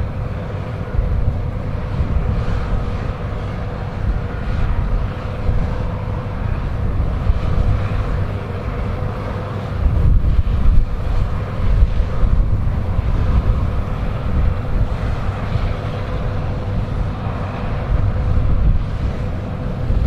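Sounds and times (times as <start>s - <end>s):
combine harvester running: 0.0s - 20.0s
wind buffeting microphone: 0.0s - 20.0s.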